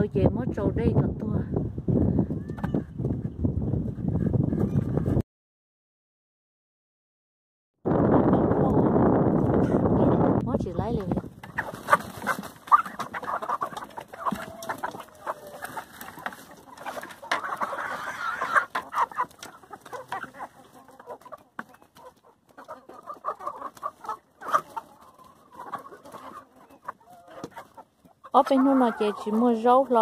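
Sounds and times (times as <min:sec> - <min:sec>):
chickens clucking: 0:02.2 - 0:05.2, 0:08.5 - 0:30.0.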